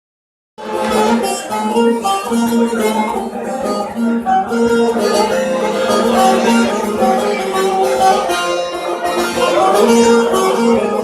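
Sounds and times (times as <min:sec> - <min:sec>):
plucked long-necked lute melody: 0:00.6 - 0:11.0.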